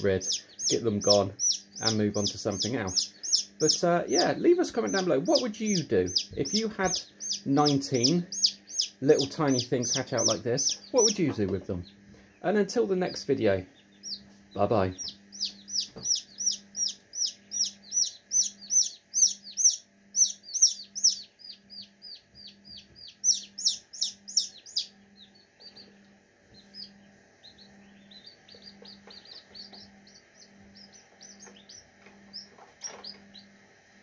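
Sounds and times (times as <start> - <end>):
chick peeping: 0.0 - 33.9
faint low pulsing hum: 0.0 - 34.0.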